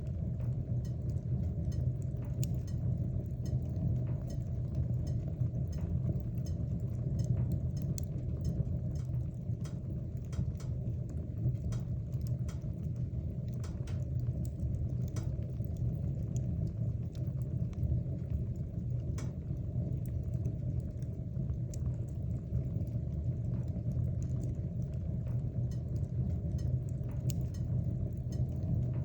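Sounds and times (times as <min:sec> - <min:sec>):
fire crackling and popping: 0:00.0 - 0:29.0
wood fire roaring: 0:00.0 - 0:29.0.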